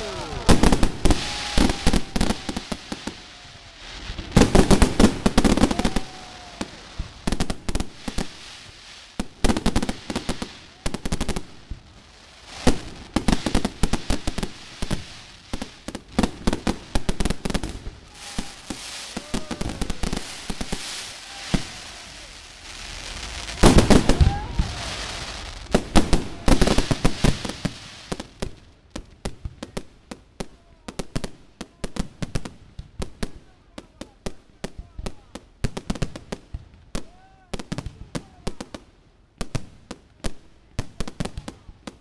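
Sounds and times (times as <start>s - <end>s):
fireworks banging and crackling: 0.0s - 42.0s.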